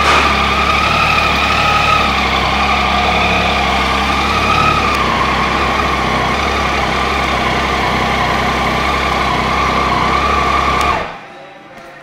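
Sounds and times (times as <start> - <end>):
motorcycle engine idling: 0.0 - 11.2
steady high whine: 0.0 - 11.7.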